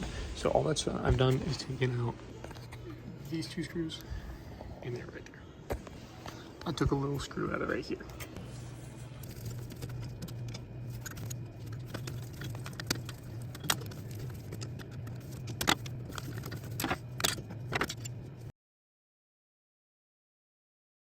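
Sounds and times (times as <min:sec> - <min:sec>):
steady low hum: 0:00.0 - 0:18.5.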